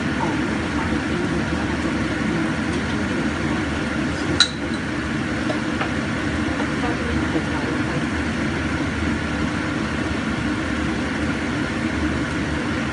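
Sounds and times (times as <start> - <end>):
low rumble of kitchen noise: 0.0 - 12.9.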